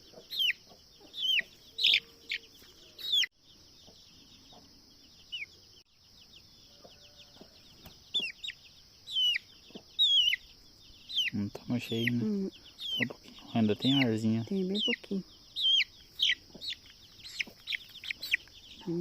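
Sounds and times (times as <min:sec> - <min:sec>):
chick peeping: 0:00.0 - 0:19.0.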